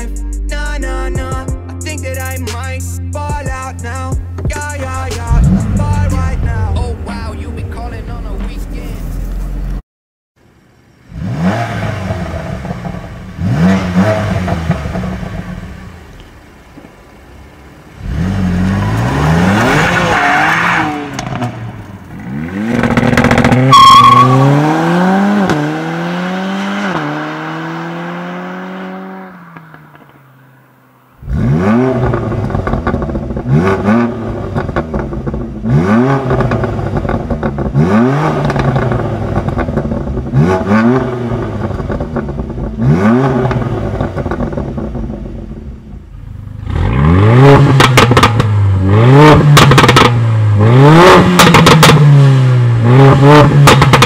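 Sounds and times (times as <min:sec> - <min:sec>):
sports car engine revving: 0:03.9 - 0:09.8, 0:10.8 - 0:16.6, 0:17.3 - 0:30.6, 0:31.2 - 0:54.0.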